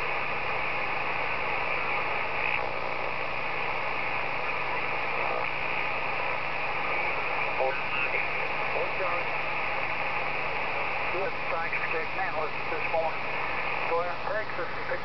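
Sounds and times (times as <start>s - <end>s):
radio static: 0.0s - 15.0s.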